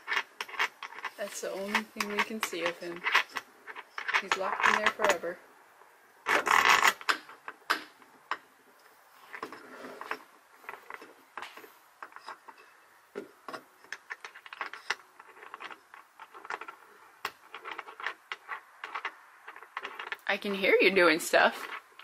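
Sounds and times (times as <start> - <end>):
tools and parts clicking and knocking: 0.0 - 5.3, 6.3 - 20.3.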